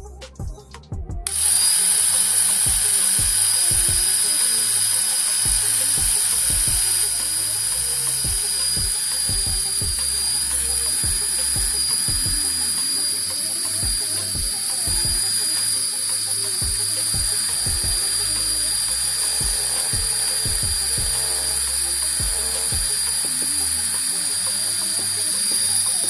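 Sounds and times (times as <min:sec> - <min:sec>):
background music with a beat: 0:00.0 - 0:26.0
small electric motor whining: 0:01.3 - 0:26.0.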